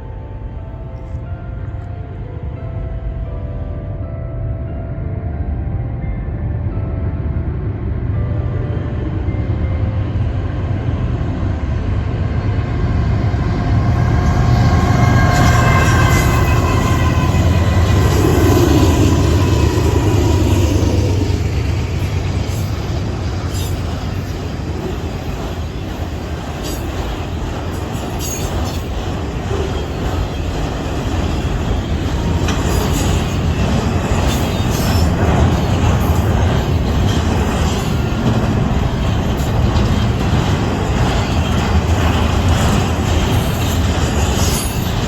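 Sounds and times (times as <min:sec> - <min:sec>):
train wheels rumbling on rail: 0:07.6 - 0:45.0.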